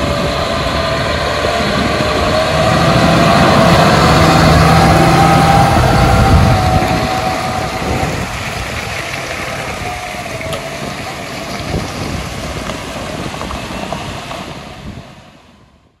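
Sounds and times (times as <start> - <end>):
tractor engine pulling away: 0.0 - 15.7.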